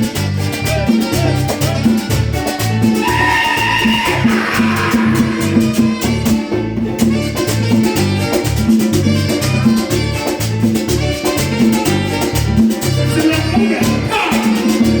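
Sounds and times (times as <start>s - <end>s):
instrumental salsa music: 0.0s - 15.0s.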